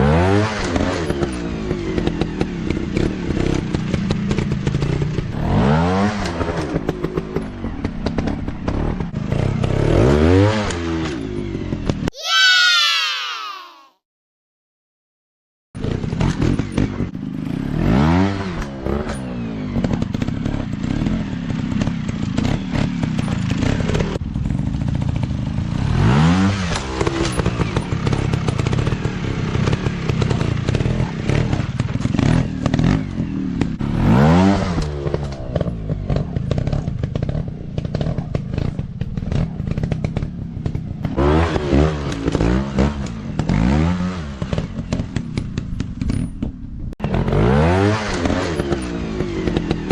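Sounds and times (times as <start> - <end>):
dirt bike engine revving: 0.0 - 11.2, 15.8 - 46.0, 47.0 - 49.9.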